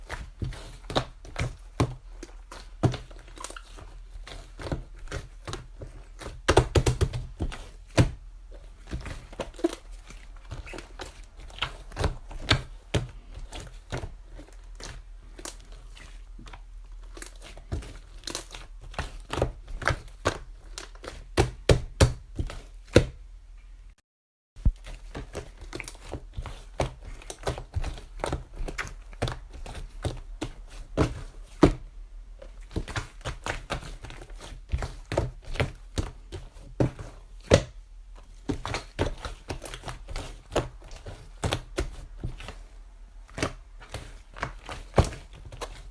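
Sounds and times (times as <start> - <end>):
crinkling with taps and clicks: 0.0 - 23.2, 24.6 - 45.9.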